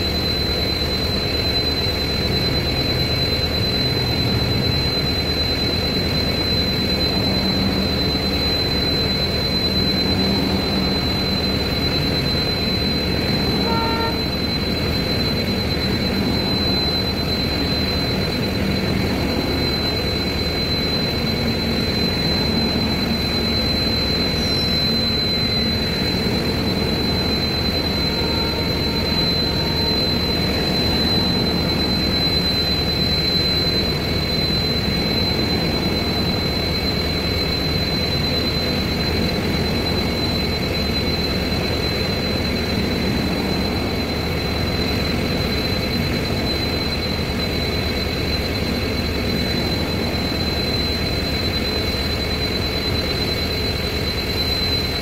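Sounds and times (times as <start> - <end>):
thin high whine: 0.0 - 55.0
train coaches rolling past: 0.0 - 55.0.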